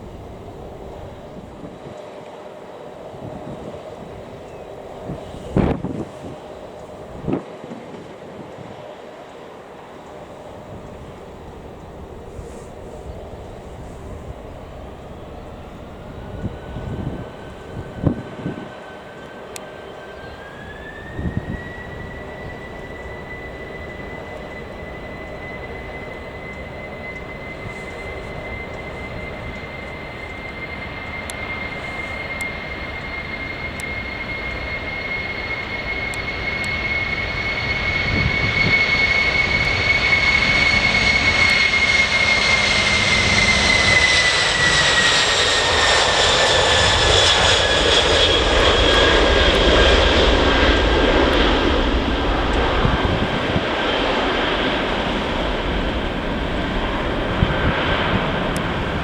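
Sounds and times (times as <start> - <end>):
jet engines passing: 0.0 - 59.0.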